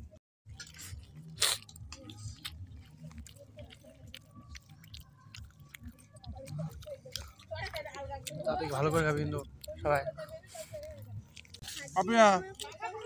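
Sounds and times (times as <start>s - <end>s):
person chewing food: 0.5s - 13.0s.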